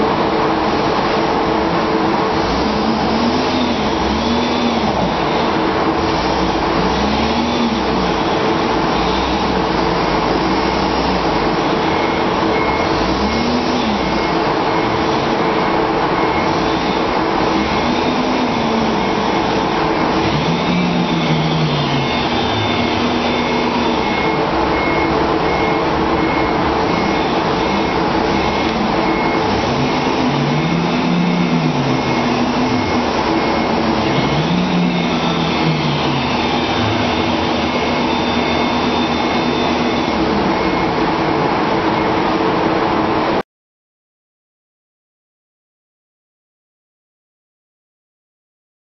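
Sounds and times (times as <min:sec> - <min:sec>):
forklift engine revving: 0:00.0 - 0:43.4
steady mechanical hum: 0:00.0 - 0:43.4.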